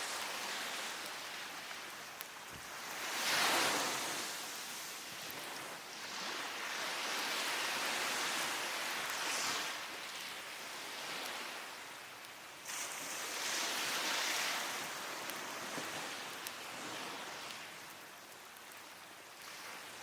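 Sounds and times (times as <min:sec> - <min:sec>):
sea waves breaking on beach: 0:00.0 - 0:11.9, 0:12.6 - 0:20.0.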